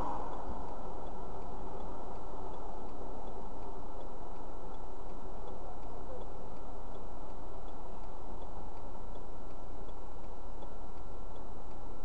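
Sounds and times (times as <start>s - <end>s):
faint regular ticking: 0.0s - 12.0s
vehicle low rumble: 0.0s - 12.0s.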